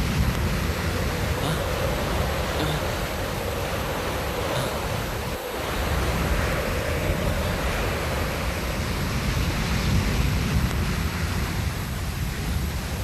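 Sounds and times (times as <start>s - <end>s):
low rumble: 0.0s - 13.0s
sea: 0.0s - 13.0s
wind: 0.0s - 13.0s.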